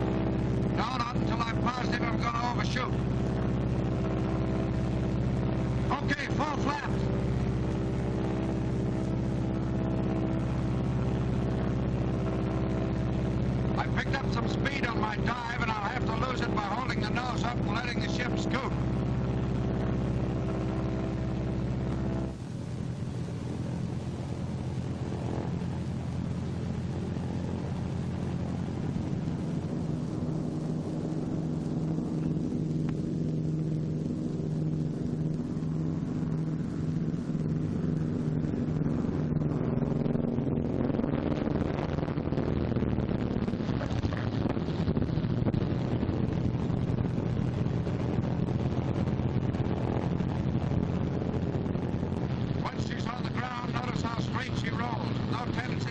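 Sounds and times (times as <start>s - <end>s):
piston engines droning: 0.0s - 55.9s.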